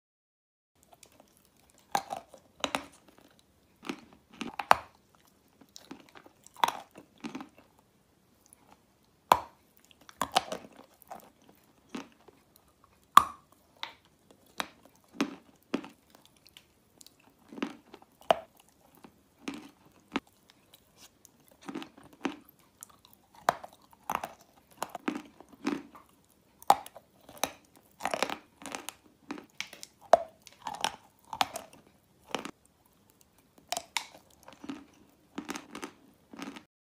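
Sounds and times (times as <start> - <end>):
crunching and chewing chalk: 0.8 - 36.7.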